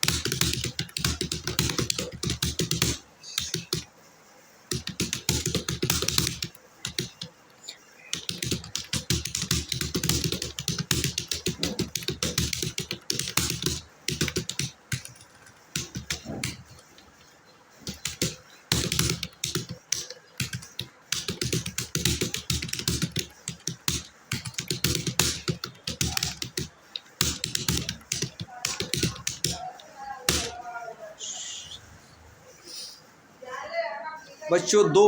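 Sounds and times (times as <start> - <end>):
fast typing on keyboard: 0.0 - 30.9.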